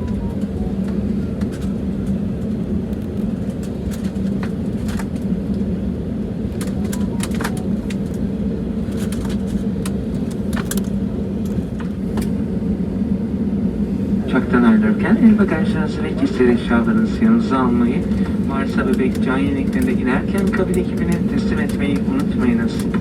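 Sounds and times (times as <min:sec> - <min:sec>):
airplane cabin hum and rumble: 0:00.0 - 0:23.0.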